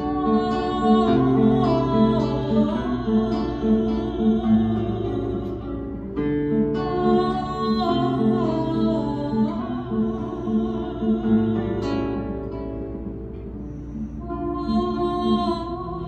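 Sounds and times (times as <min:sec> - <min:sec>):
woman singing with vibrato: 0:00.0 - 0:12.6, 0:14.2 - 0:16.0
classical guitar: 0:00.0 - 0:16.0.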